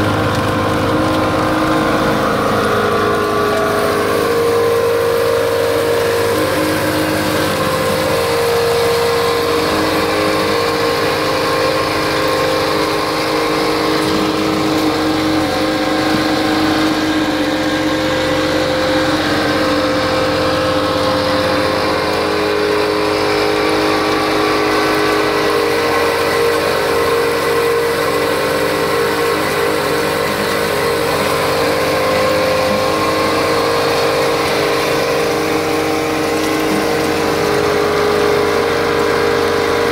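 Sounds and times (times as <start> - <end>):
mini excavator engine: 0.0 - 39.9
soil screener engine drone: 0.0 - 39.9.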